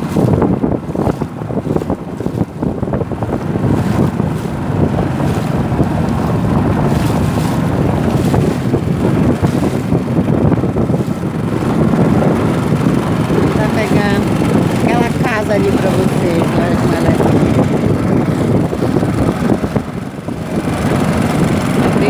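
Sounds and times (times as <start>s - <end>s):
water washing against canoe: 0.0s - 22.0s
wind buffeting microphone: 0.0s - 22.0s.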